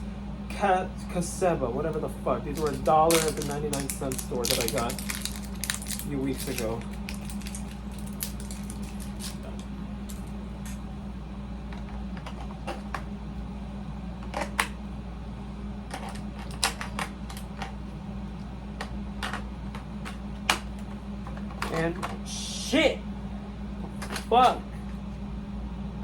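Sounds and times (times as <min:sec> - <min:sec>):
air-conditioner hum: 0:00.0 - 0:26.0.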